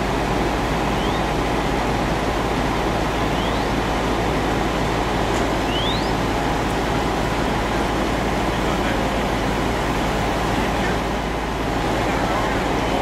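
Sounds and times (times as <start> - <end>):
fire engine pumps roaring: 0.0 - 13.0.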